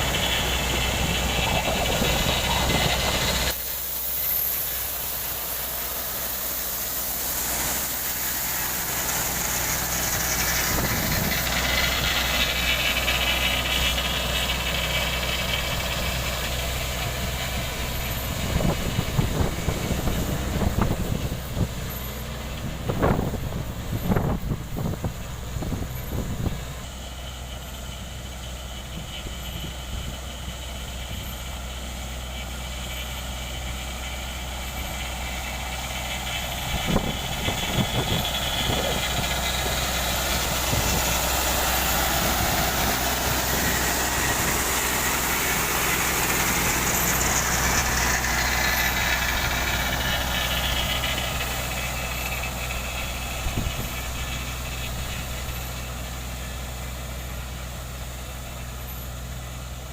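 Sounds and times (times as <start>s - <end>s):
heavy machinery diesel engines: 0.0s - 59.9s.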